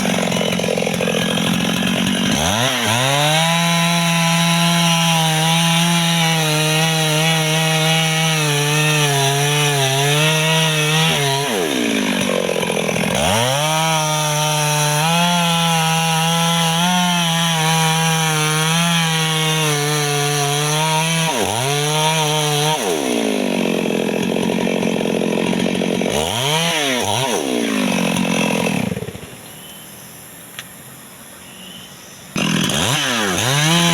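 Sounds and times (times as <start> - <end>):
chainsaw cutting wood: 0.0 - 29.7, 32.3 - 33.9.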